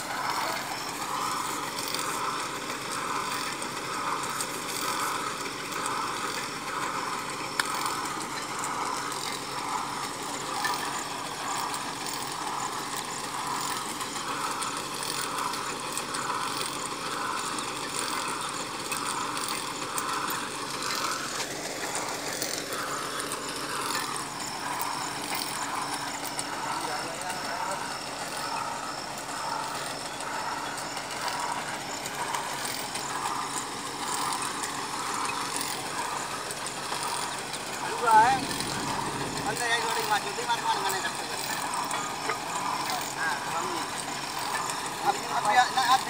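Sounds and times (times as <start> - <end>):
drilling rig engine running: 0.0 - 46.0.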